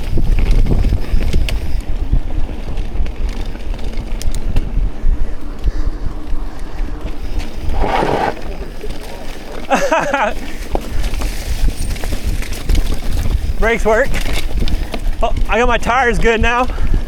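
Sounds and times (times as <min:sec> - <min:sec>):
wind buffeting microphone: 0:00.0 - 0:09.0, 0:10.6 - 0:17.0
bike clicks and rattles: 0:00.0 - 0:17.0
bike rolling on dirt trail: 0:00.0 - 0:17.0.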